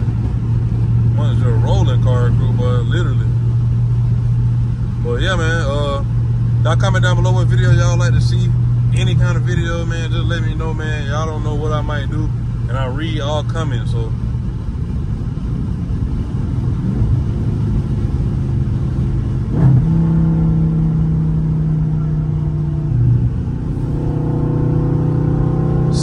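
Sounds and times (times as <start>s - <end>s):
car engine cruising: 0.0s - 26.0s
road noise: 0.0s - 26.0s.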